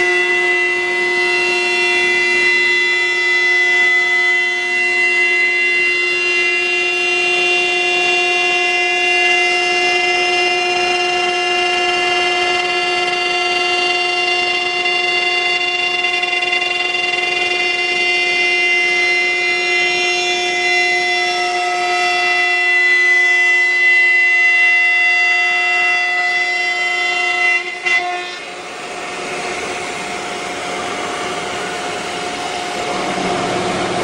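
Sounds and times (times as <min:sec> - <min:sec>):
cnc router spindle whine: 0:00.0 - 0:34.0.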